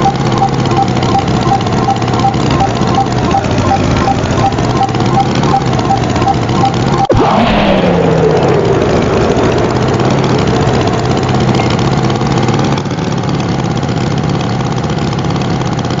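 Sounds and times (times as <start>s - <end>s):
tractor engine idling: 0.0s - 7.1s, 8.2s - 16.0s.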